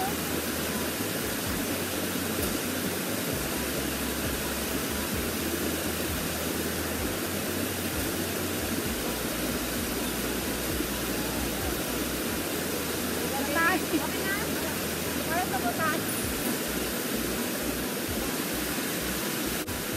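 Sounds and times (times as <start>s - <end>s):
waterfall rushing over rocks: 0.0s - 19.9s.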